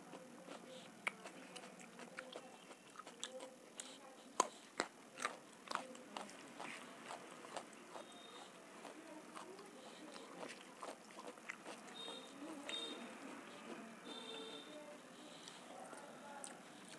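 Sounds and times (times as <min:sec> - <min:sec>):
carrot crunching: 0:00.0 - 0:14.7.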